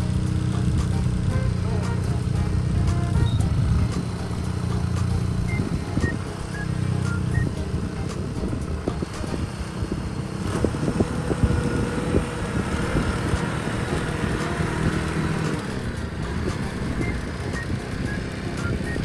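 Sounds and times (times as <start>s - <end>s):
transplanter engine running: 0.0s - 19.0s
wheels and frame clattering: 0.0s - 19.0s.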